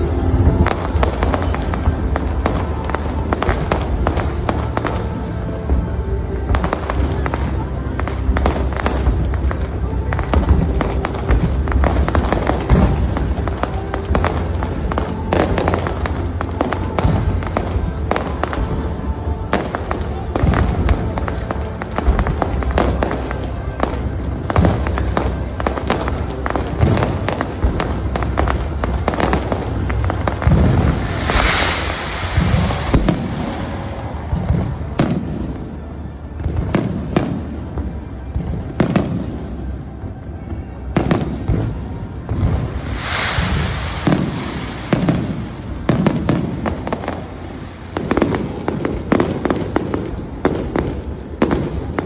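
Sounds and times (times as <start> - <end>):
fireworks crackling hiss: 0.0 - 39.8, 40.4 - 52.0
fireworks bangs and booms: 0.0 - 52.0.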